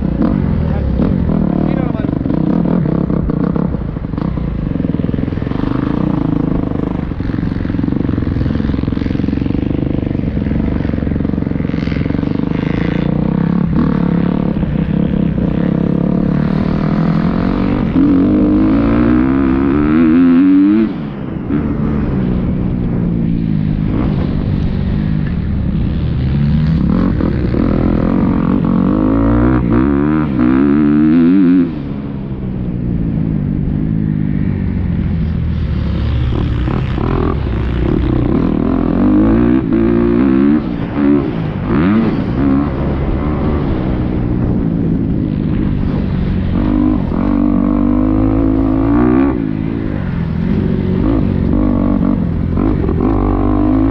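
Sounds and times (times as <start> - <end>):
motocross bike engine revving: 0.0 - 22.1, 25.8 - 31.9, 35.5 - 43.7, 45.4 - 53.9.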